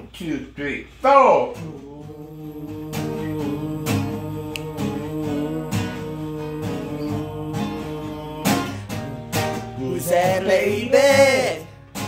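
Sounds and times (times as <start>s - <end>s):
guitar strumming chords: 1.6s - 12.0s.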